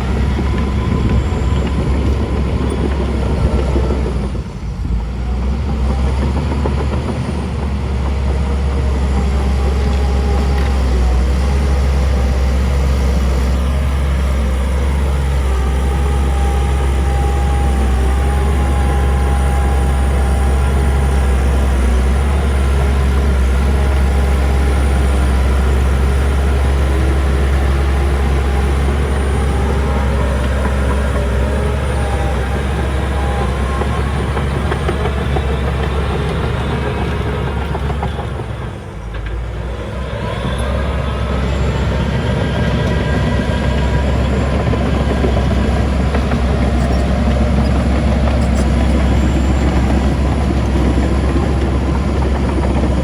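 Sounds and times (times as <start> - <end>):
heavy diesel machinery rumbling: 0.0 - 53.0.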